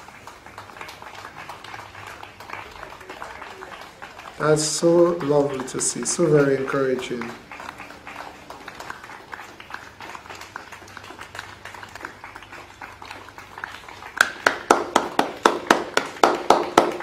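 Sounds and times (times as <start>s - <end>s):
people clapping: 0.0s - 17.0s.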